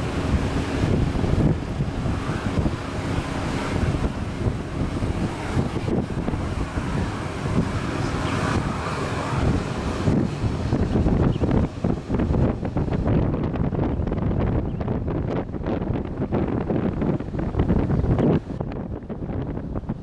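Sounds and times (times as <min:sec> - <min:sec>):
jet engines rushing: 0:00.0 - 0:20.0
wind buffeting microphone: 0:00.0 - 0:20.0.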